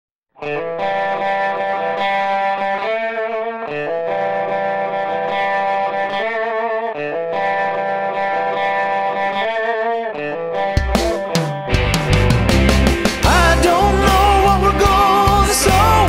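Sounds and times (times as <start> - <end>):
distorted electric guitar: 0.3 - 16.0.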